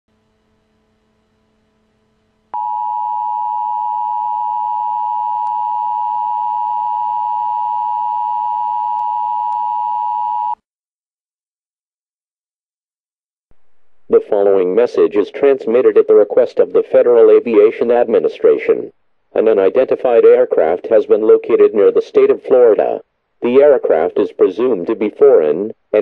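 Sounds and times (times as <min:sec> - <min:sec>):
faint low hum: 0:00.1 - 0:10.5, 0:13.5 - 0:26.0.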